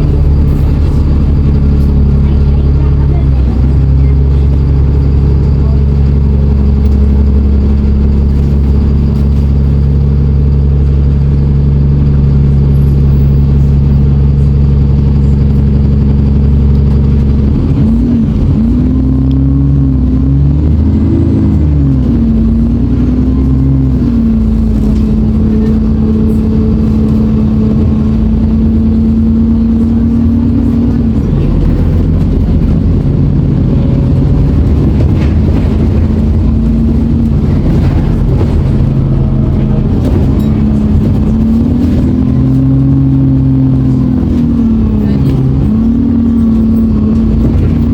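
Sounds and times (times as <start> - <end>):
bus engine running: 0.0 - 47.9.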